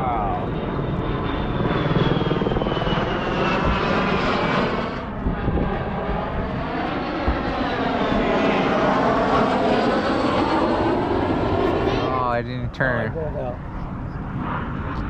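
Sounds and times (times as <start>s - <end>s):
airplane engine passing: 0.0s - 15.0s.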